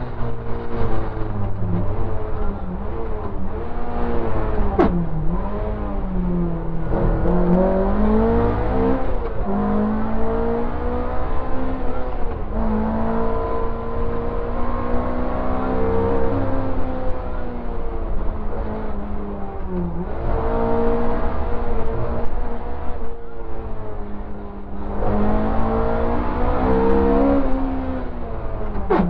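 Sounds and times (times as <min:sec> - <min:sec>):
rally car engine accelerating: 0:00.0 - 0:29.0.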